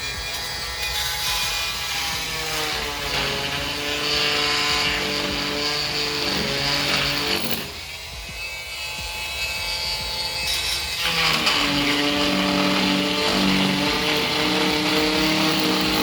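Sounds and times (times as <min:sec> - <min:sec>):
power tool cutting wood: 0:00.0 - 0:16.0.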